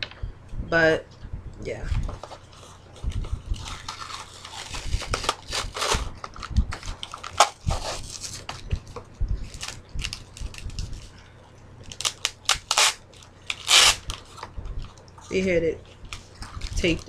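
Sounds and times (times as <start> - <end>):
fan humming: 0.0 - 17.0
packaging rustling and crinkling: 1.9 - 11.2, 11.8 - 17.0.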